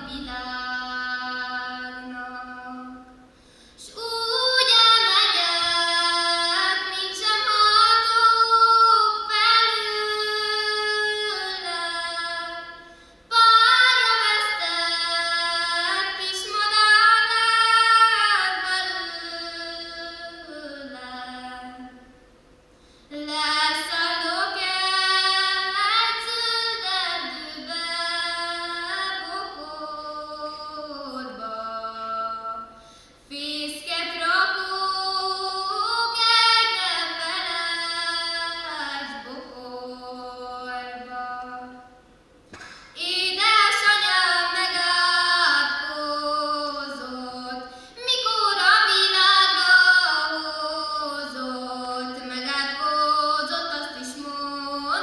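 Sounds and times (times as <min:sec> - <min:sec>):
woman singing unaccompanied: 0:00.0 - 0:03.2, 0:03.8 - 0:22.1, 0:23.1 - 0:42.0, 0:42.9 - 0:55.0.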